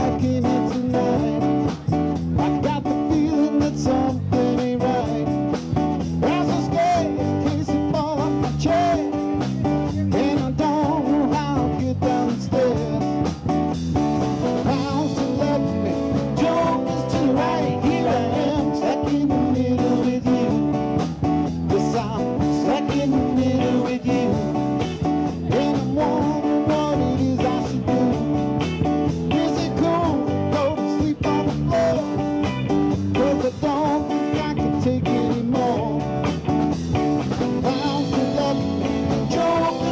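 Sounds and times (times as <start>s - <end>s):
man singing: 0.0s - 13.6s, 14.4s - 36.4s, 37.4s - 39.9s
blues-rock band playing: 0.0s - 39.9s.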